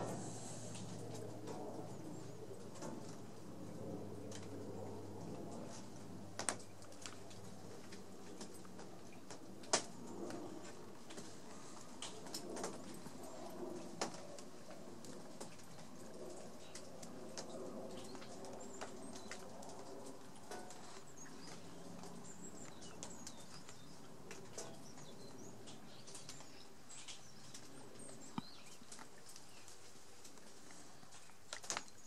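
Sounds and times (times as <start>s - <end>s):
low steady hum: 0.0s - 32.0s
small clicks and rustles: 0.0s - 32.0s.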